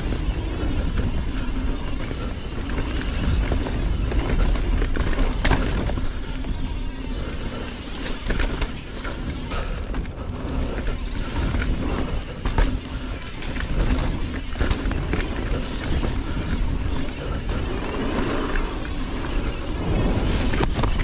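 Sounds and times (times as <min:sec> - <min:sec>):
bike clattering over bumps: 0:00.0 - 0:21.0
tyres rolling over dirt: 0:00.0 - 0:21.0
wind rumbling on microphone: 0:00.0 - 0:21.0.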